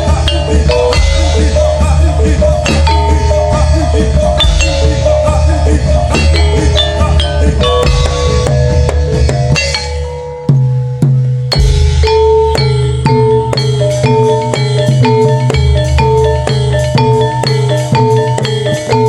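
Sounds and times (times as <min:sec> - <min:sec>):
bronze metallophones ringing: 0:00.0 - 0:19.0
drum beat: 0:00.0 - 0:19.0.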